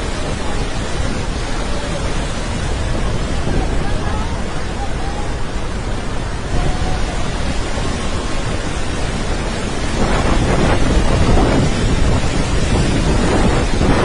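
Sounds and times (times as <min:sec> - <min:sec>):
waterfall roaring: 0:00.0 - 0:14.0
wind buffeting microphone: 0:00.0 - 0:14.0.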